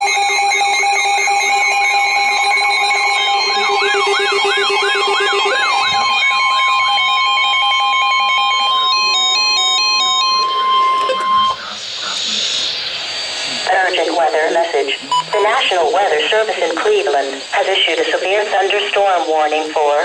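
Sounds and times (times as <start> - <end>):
alternating two-pitch beeping: 0.0 - 19.2
steady electronic warning tone: 0.0 - 20.0.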